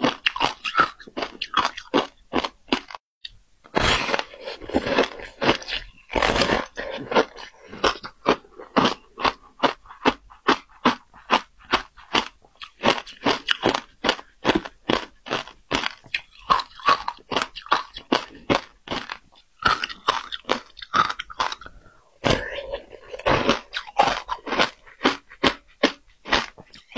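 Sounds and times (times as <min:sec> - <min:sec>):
chewing shaved ice crunches: 0:00.0 - 0:03.0, 0:04.1 - 0:26.9.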